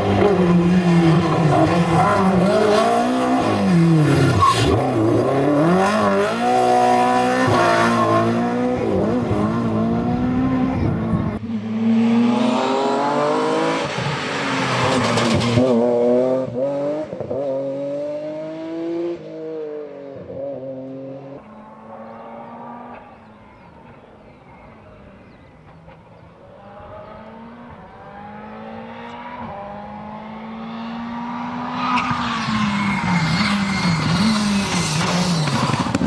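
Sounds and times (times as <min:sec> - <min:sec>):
rally car engine at full throttle: 0:00.0 - 0:36.0.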